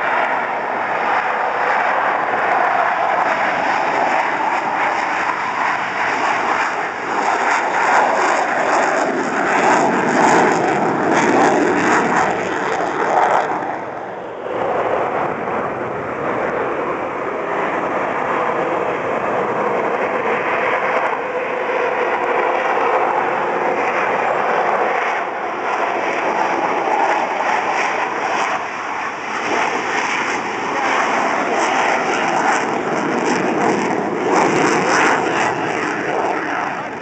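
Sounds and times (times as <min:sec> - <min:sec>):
fighter jet roar taking off: 0:00.0 - 0:37.0.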